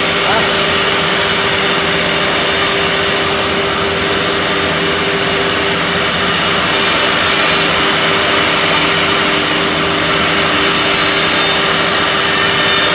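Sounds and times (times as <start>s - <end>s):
mortising machine cutting wood: 0.0s - 12.9s.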